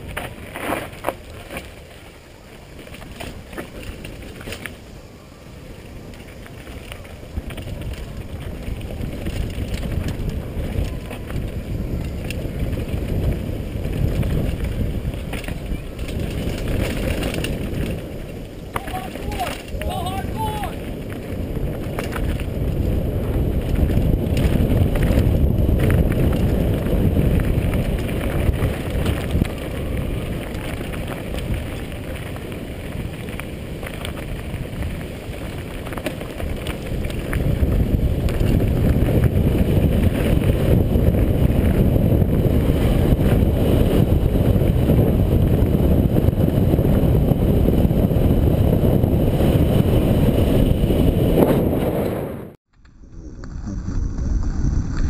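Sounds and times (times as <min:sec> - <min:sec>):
bike rattling over rocky trail: 0:00.0 - 0:52.4
wind rushing over camera: 0:00.0 - 0:55.0.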